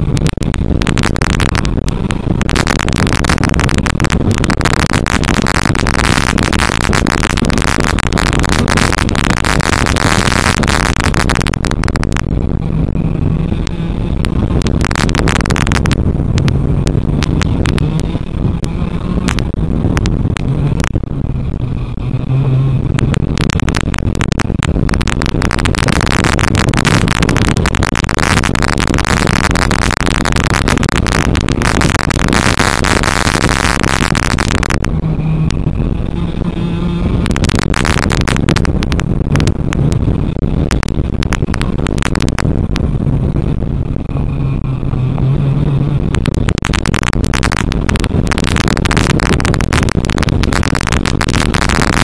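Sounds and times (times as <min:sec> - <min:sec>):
kart engine running hard: 0:00.0 - 0:46.8
wind rush on microphone: 0:00.0 - 0:52.0.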